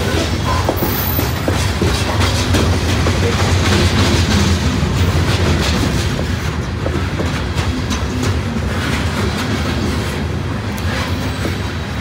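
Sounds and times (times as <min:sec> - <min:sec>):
freight train wheels rumbling: 0:00.0 - 0:12.0
train wheels clacking: 0:00.0 - 0:12.0.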